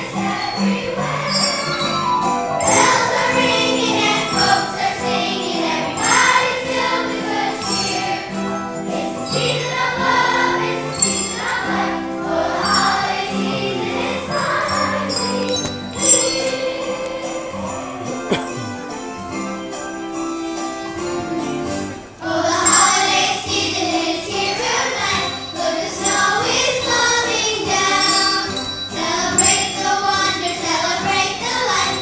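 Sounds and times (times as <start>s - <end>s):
children's choir singing: 0.0s - 32.0s
instrumental accompaniment: 0.0s - 32.0s.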